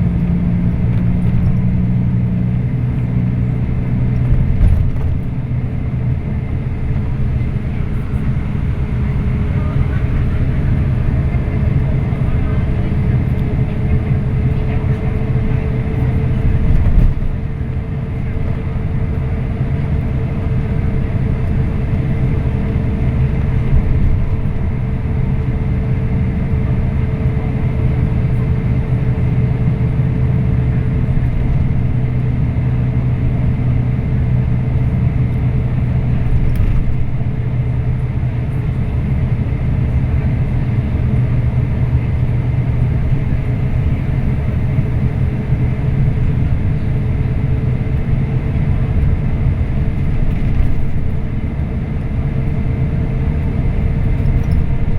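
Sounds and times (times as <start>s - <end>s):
bus engine and road drone: 0.0s - 54.9s.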